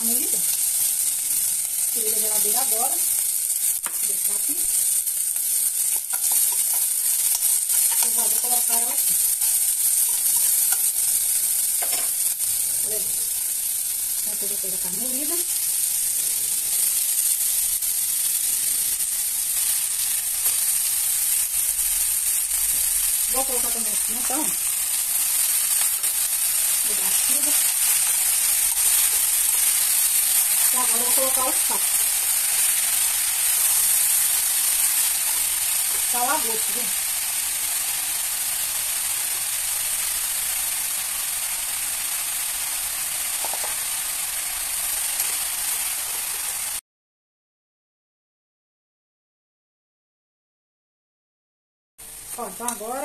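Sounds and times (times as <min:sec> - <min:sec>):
meat and onion sizzling: 0:00.0 - 0:46.8, 0:52.0 - 0:53.0.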